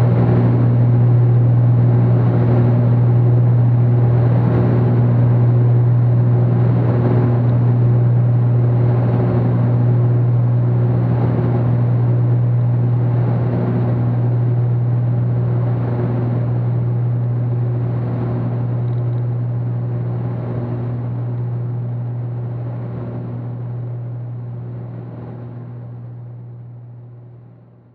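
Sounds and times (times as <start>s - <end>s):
aircraft propellers droning: 0.0s - 27.4s.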